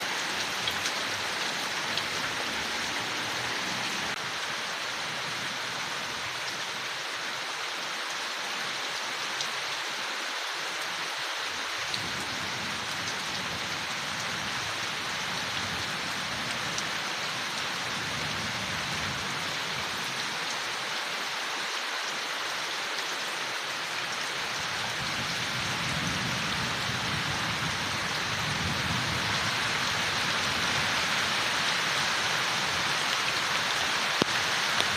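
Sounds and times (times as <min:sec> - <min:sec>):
rain falling on leaves: 0:00.0 - 0:34.9.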